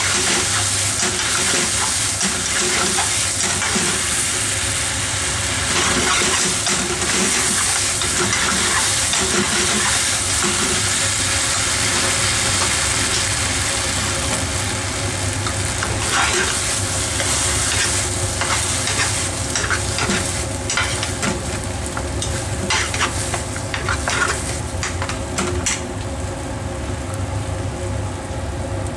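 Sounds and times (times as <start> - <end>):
vegetables sizzling in pan: 0.0 - 26.4.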